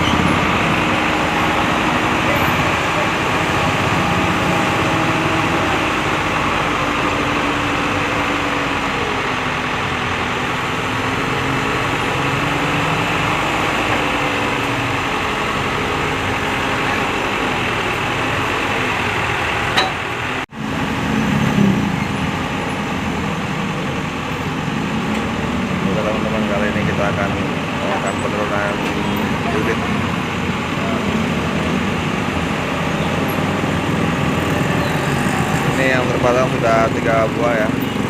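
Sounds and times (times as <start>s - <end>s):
crane engine running: 0.0s - 38.0s.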